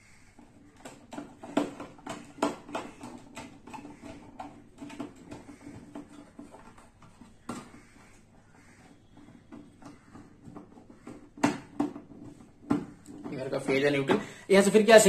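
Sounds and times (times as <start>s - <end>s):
wires and plastic fittings clicking: 0.0s - 14.2s.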